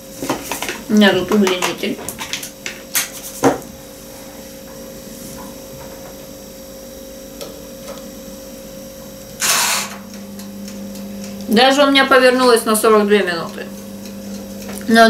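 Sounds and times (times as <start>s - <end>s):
oven humming: 0.0s - 15.0s.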